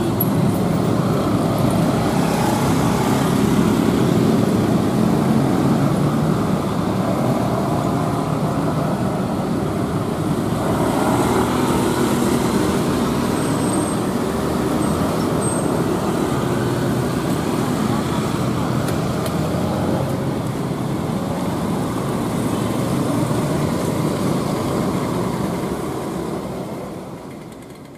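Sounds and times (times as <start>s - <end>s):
cars passing: 0.0s - 27.3s
motorcycles and scooters passing: 0.0s - 27.3s.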